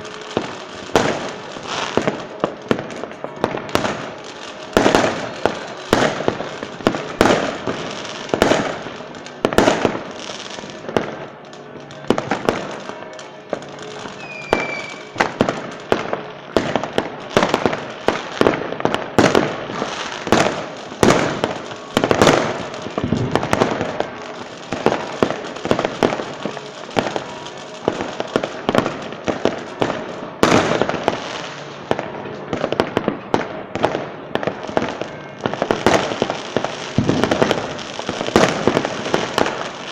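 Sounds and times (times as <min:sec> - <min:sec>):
falling firework whistle: 0:00.0 - 0:39.9
fireworks bangs and crackling: 0:00.0 - 0:39.9.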